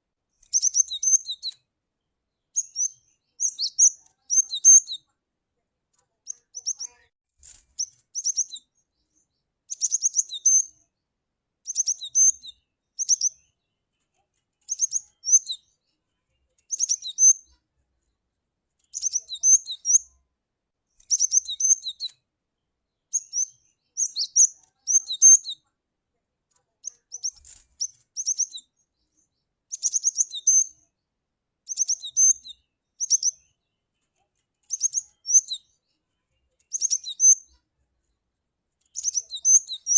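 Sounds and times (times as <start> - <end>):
bird chirping: 0.3 - 5.2, 6.2 - 11.0, 11.6 - 18.2, 18.8 - 20.2, 20.9 - 25.7, 26.5 - 39.9.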